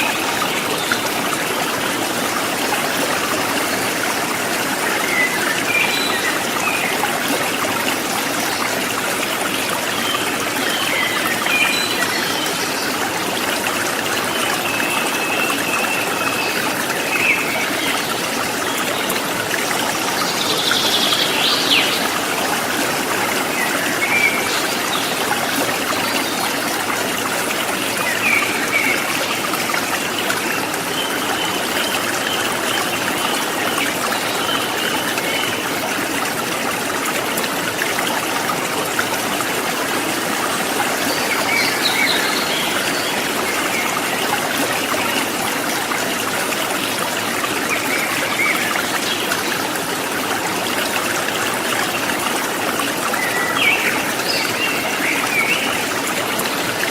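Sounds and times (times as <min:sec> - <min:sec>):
river flowing over rocks: 0:00.0 - 0:56.9.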